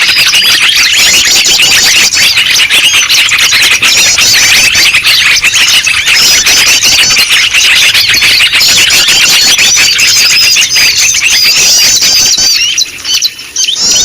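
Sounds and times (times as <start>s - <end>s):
many small birds chirping: 0.0s - 14.0s.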